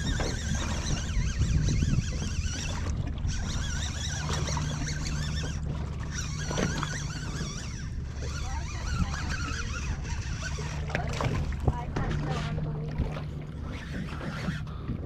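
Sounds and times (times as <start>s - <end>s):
outboard motor idling: 0.0s - 15.0s
water and wind noise: 0.0s - 15.0s.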